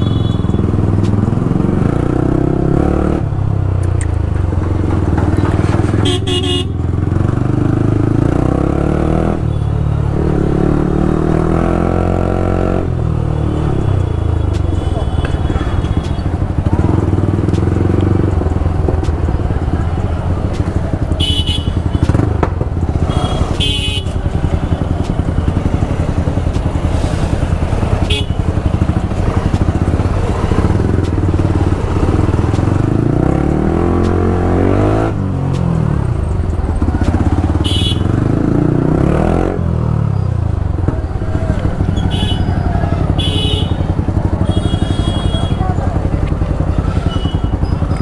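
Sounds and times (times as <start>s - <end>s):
motorcycle engine with loud exhaust: 0.0s - 48.0s.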